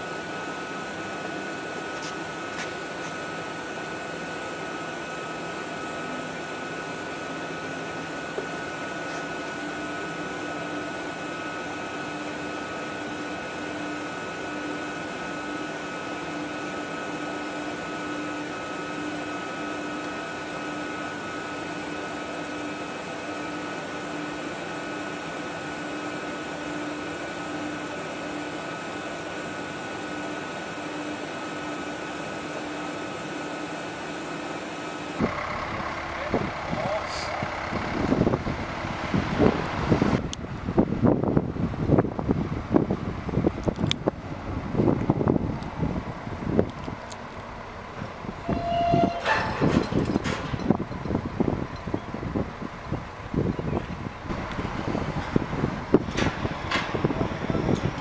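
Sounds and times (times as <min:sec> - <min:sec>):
mechanical drone with whining tones: 0:03.0 - 0:58.0.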